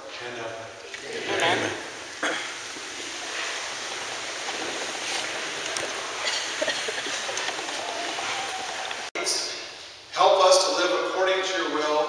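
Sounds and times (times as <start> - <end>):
room noise hiss: 0.0 - 12.0.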